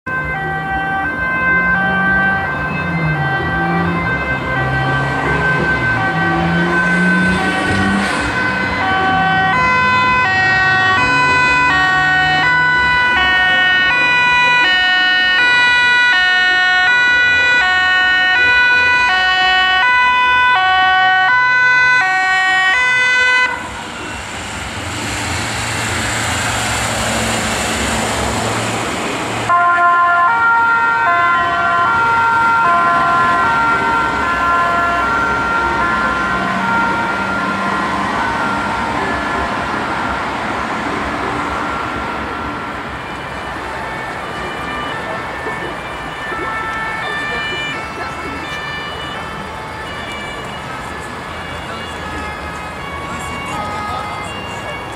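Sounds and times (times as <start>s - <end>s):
road noise of passing vehicle: 0.1s - 54.9s
two-tone siren: 0.1s - 54.9s.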